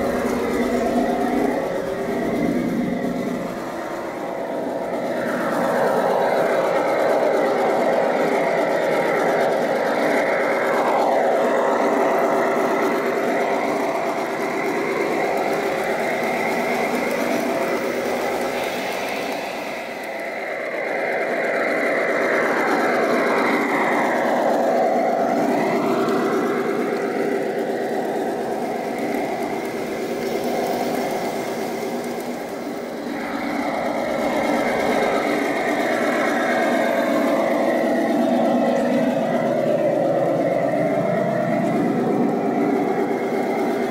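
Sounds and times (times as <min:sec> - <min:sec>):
diesel engine from small speaker: 0:00.0 - 0:43.9.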